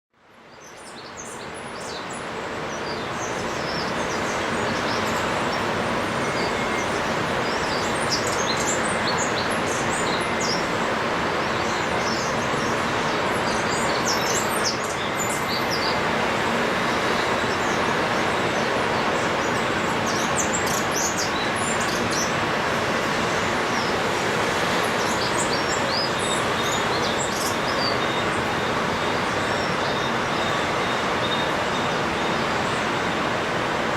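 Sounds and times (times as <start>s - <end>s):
steady rushing noise: 1.4s - 33.9s.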